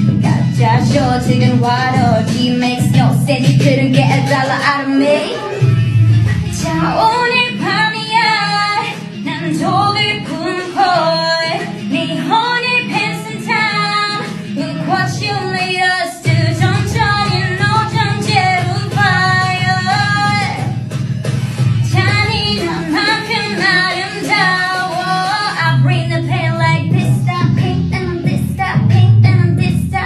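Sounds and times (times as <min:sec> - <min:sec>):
backing music: 0:00.0 - 0:30.0
woman singing pop melody: 0:00.0 - 0:30.0.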